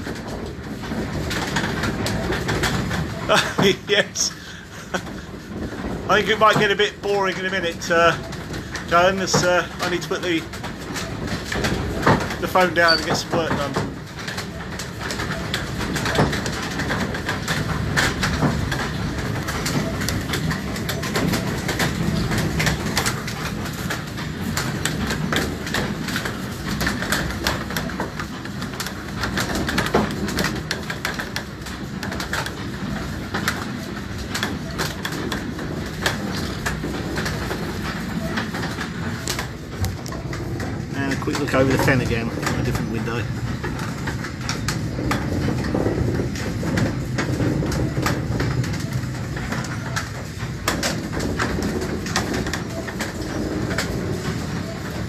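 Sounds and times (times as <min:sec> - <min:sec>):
windmill gearing rumble: 0:00.0 - 0:55.0.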